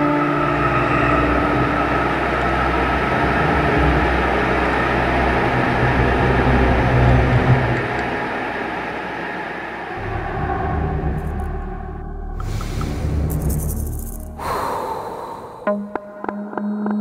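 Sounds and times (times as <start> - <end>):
low rumbling drone: 0.0 - 15.9.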